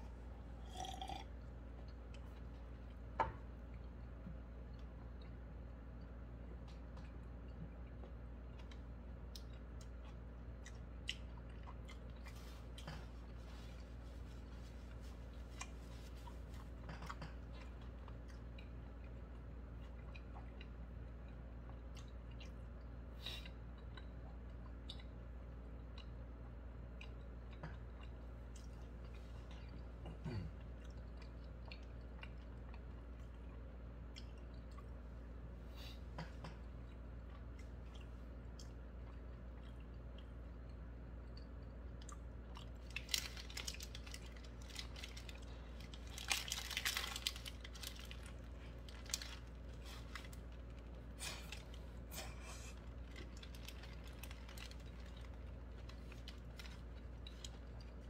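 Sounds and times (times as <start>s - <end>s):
low room hum: 0.0s - 58.0s
man chewing food: 0.0s - 58.0s.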